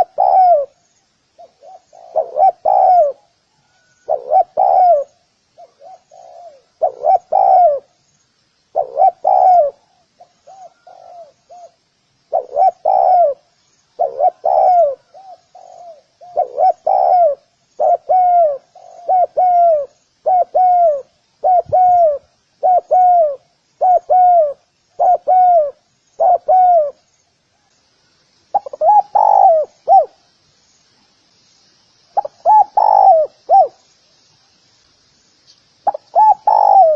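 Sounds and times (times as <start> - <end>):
dove cooing: 0.0 - 0.8, 1.4 - 8.0, 8.7 - 27.0, 28.5 - 30.2, 32.2 - 33.8, 35.8 - 36.9
faint high chirps: 0.0 - 36.9.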